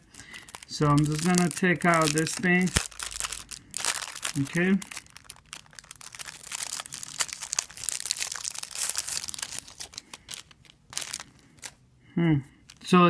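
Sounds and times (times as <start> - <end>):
plastic bag crinkling: 0.0 - 11.8, 12.6 - 13.0.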